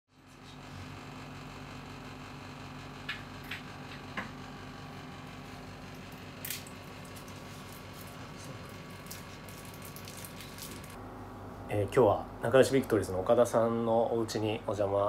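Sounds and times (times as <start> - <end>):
low electrical hum: 0.2 - 15.0.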